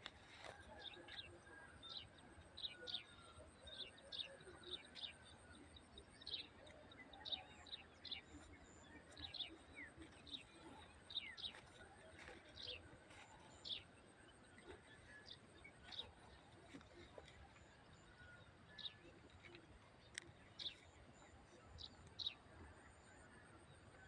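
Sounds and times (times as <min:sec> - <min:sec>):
small birds chirping: 0:00.0 - 0:22.5.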